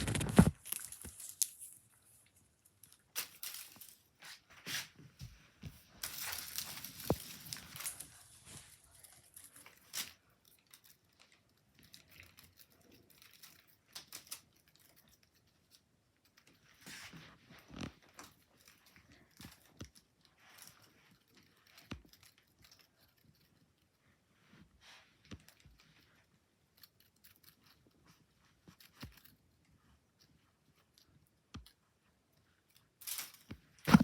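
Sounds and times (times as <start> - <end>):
cat rustling and crinkling: 0.0 - 34.0.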